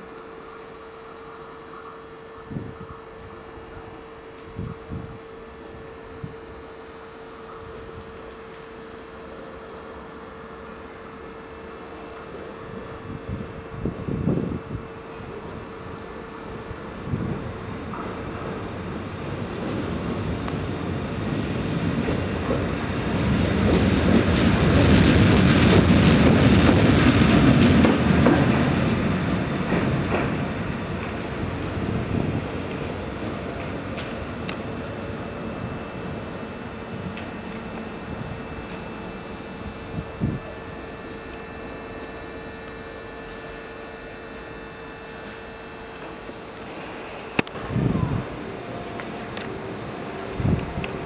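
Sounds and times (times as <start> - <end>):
locomotive wheels rumbling on rail: 0.0 - 51.0.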